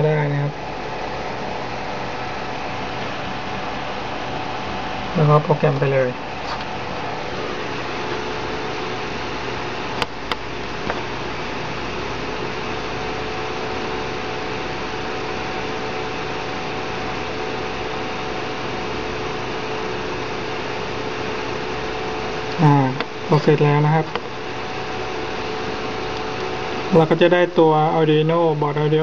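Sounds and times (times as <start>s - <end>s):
faint steady whine: 0.0s - 29.0s
mechanical hum and hiss: 0.0s - 29.0s.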